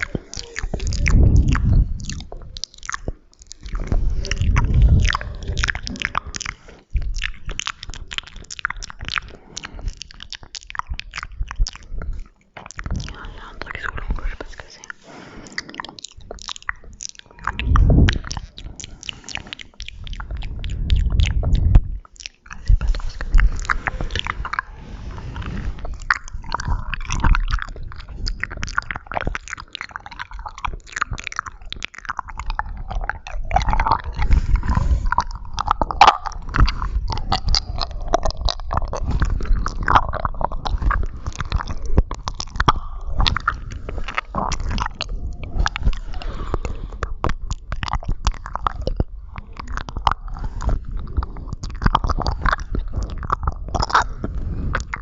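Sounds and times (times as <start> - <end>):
low rumbling: 0.0 - 55.0
wet mouth clicks and smacks: 0.0 - 55.0.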